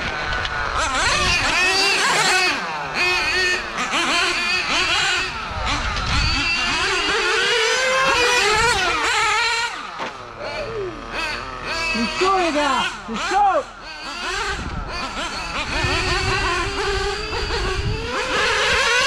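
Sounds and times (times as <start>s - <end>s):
small nitro engines revving: 0.0s - 19.0s.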